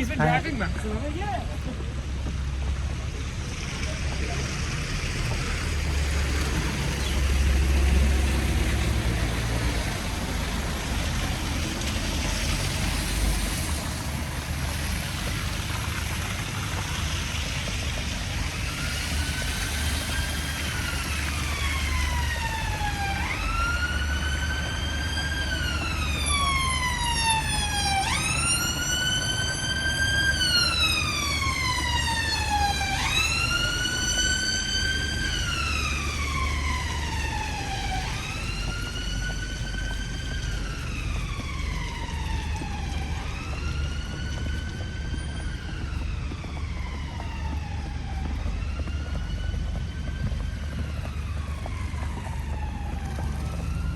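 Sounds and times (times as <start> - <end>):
emergency siren wailing: 3.8 - 53.9.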